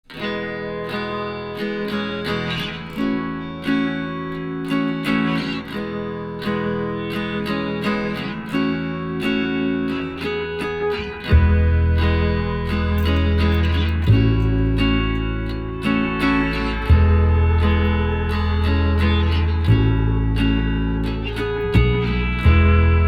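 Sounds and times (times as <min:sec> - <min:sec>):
plucked acoustic guitar music: 0:00.0 - 0:23.0.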